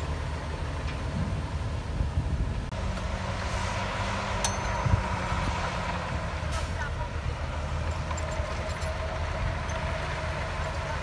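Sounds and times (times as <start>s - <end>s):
diesel construction machinery droning: 0.0s - 11.0s.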